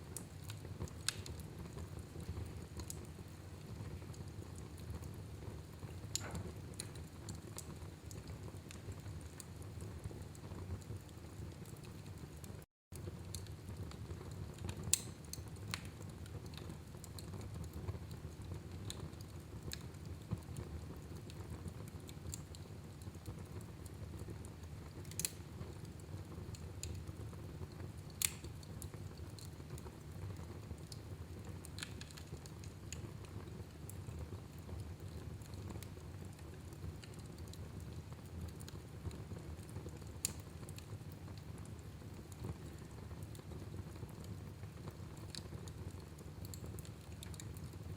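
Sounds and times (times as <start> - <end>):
fire crackling and popping: 0.0 - 47.9
low rumble of fire: 0.0 - 47.9.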